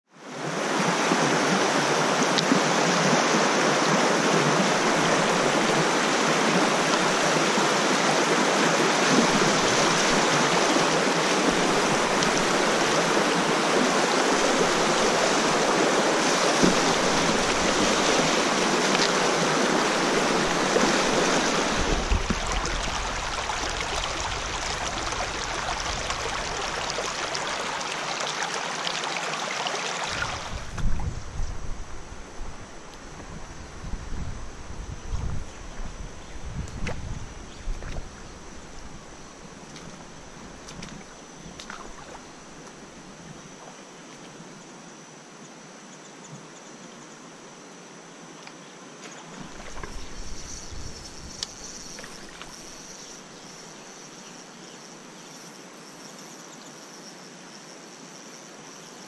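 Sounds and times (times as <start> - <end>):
stream rushing over rocks: 0.2 - 44.5, 49.2 - 53.7.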